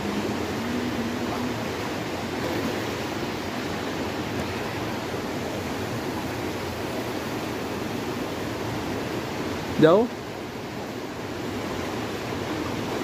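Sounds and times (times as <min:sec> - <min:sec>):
stream running over rocks: 0:00.0 - 0:13.0
waterfall rushing: 0:00.0 - 0:13.0.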